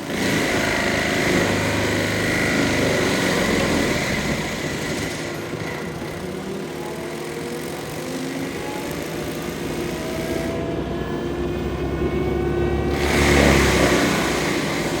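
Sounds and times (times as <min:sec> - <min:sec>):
diesel engine under load: 0:00.0 - 0:15.0
stump grinder whine: 0:00.0 - 0:15.0.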